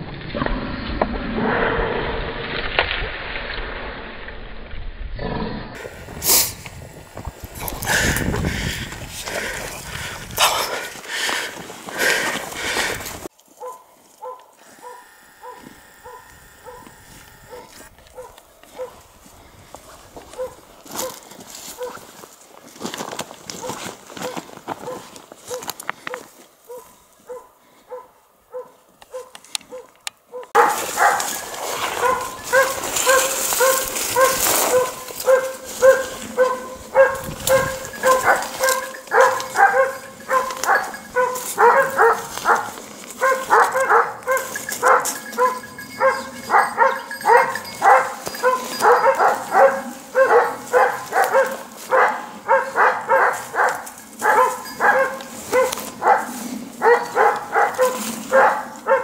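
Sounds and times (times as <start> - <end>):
hunting dogs baying: 7.4 - 19.1, 20.1 - 22.2, 23.5 - 59.0.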